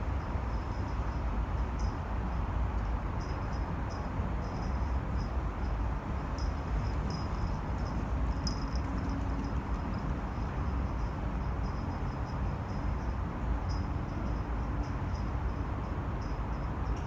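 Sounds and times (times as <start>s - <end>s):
rumble of car traffic: 0.0s - 17.0s.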